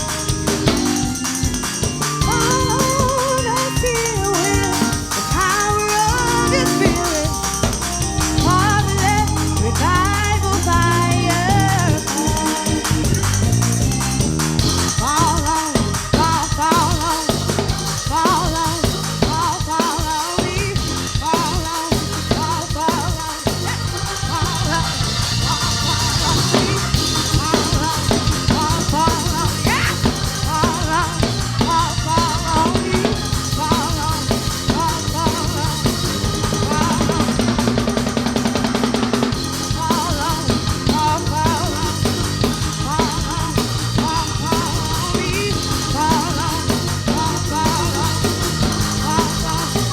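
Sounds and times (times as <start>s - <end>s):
gospel band playing: 0.0s - 49.9s.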